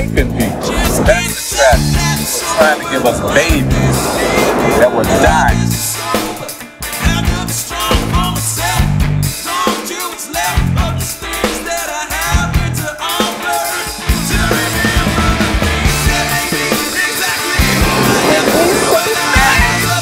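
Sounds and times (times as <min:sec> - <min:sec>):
rock music: 0:00.5 - 0:20.0.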